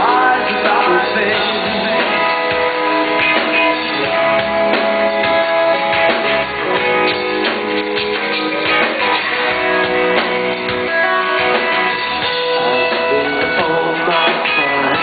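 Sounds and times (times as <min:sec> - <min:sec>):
electric guitar: 0:00.0 - 0:15.0
live rock band: 0:00.0 - 0:15.0.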